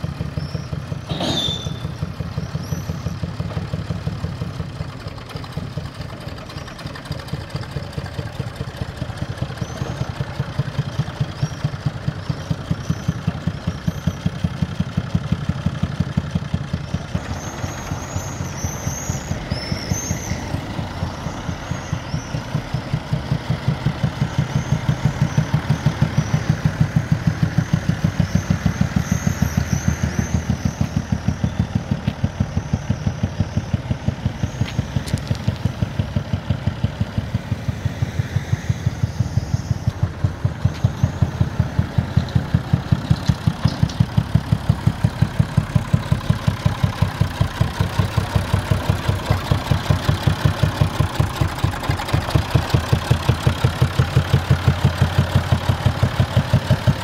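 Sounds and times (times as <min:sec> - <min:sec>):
tractor engine chugging: 0:00.0 - 0:57.0.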